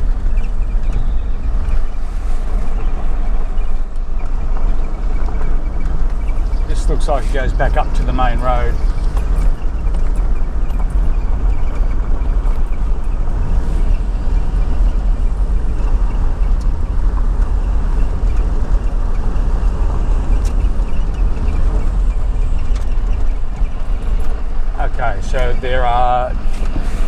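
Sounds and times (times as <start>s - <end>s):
vehicle engine and tyre rumble: 0.0s - 27.0s.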